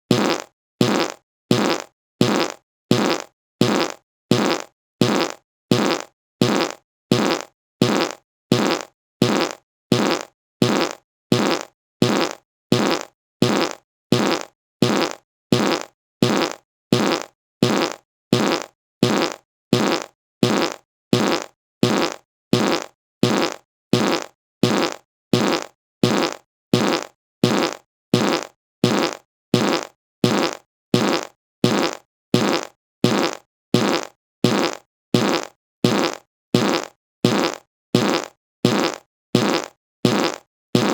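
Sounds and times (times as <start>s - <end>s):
short fart sound: 0.1s - 40.9s.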